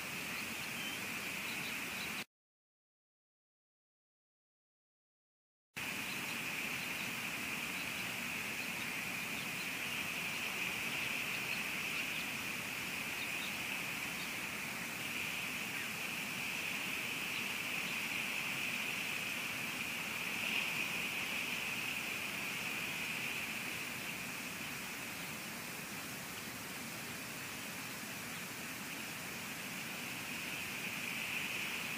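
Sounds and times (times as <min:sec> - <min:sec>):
rain hiss: 0:00.0 - 0:02.2, 0:05.8 - 0:31.9.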